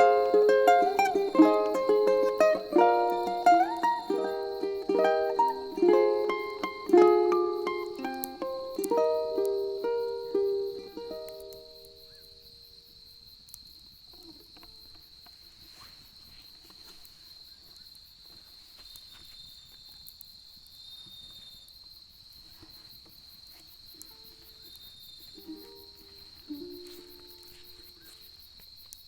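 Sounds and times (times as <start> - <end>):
crickets trilling: 0.0 - 29.0
faint bonfire crackles: 0.0 - 29.0.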